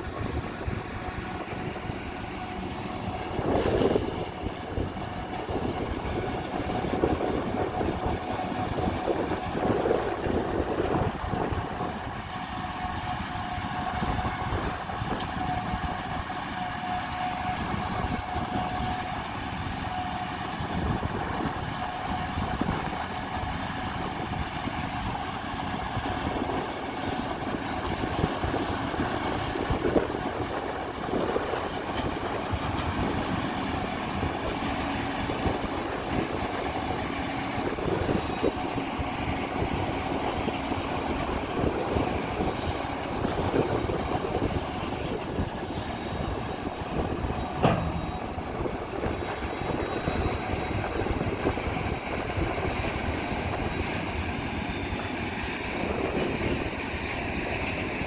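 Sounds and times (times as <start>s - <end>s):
harvesting machinery rumbling: 0.0s - 58.0s.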